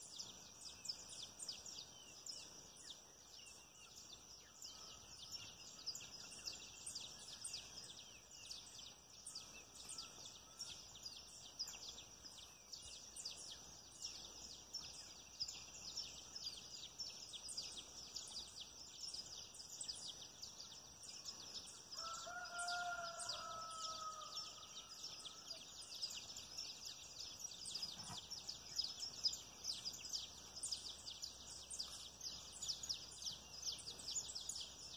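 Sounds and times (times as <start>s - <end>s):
insects and birds chirping: 0.0s - 34.9s.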